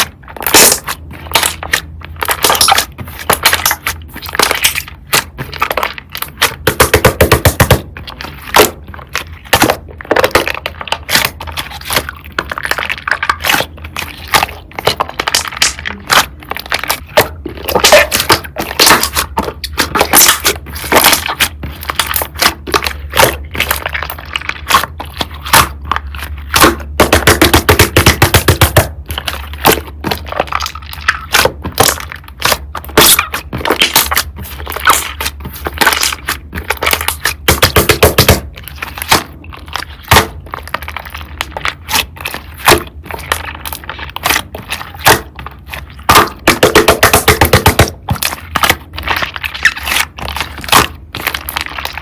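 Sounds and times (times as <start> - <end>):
slime crackling and popping: 0.0 - 52.0.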